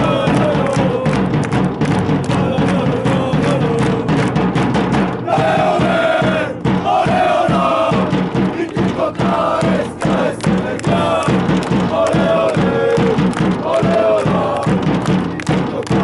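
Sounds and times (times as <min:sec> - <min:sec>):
crowd chanting: 0:00.0 - 0:01.5, 0:02.2 - 0:04.4, 0:05.2 - 0:16.0
rhythmic hand-clapping: 0:00.0 - 0:16.0.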